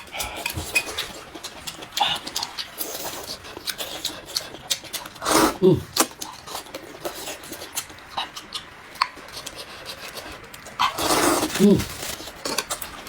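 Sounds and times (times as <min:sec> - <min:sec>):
chewing with small clicks: 0:00.0 - 0:05.2, 0:05.9 - 0:13.0
slurping noodles: 0:00.2 - 0:08.4, 0:09.3 - 0:12.8.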